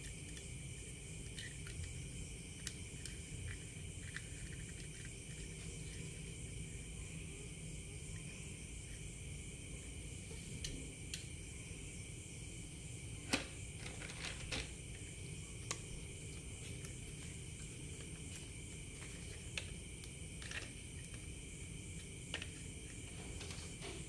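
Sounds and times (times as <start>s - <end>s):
high-pitched background hiss: 0.0s - 24.0s.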